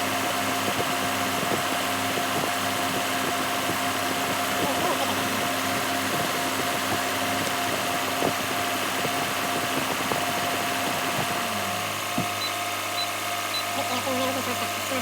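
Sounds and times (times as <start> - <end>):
air conditioning mechanical hum: 0.0 - 15.0.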